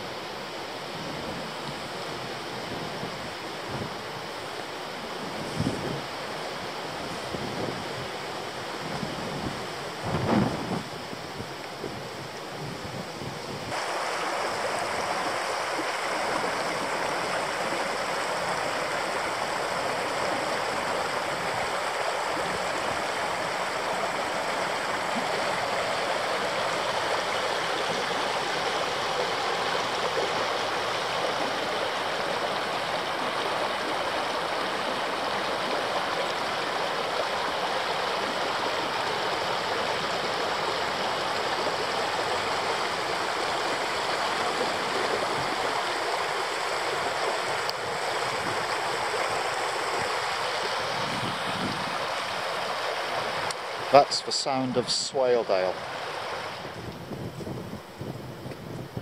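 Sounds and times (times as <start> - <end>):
water rushing over stones: 0.0 - 59.0.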